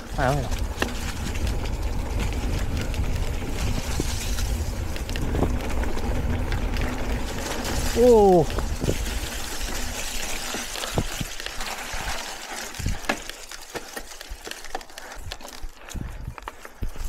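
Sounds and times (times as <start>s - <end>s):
bike knocks and rattles: 0.0s - 17.0s
rushing wind and tyre noise: 0.0s - 17.0s.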